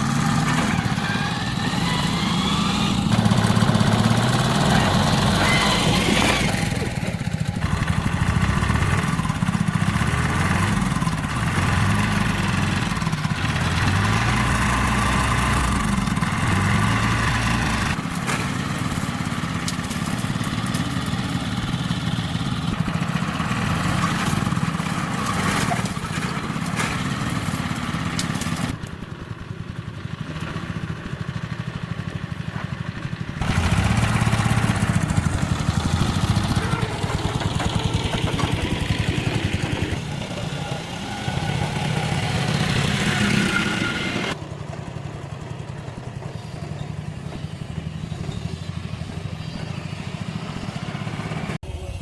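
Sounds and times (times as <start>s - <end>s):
engine running steadily: 0.0s - 52.0s.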